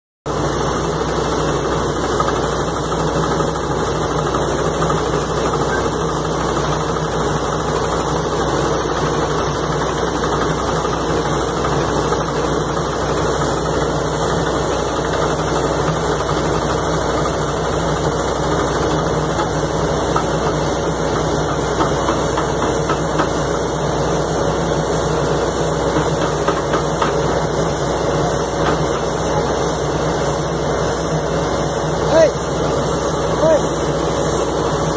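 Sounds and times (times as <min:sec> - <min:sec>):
drilling rig engine and hydraulics: 0:00.3 - 0:34.9.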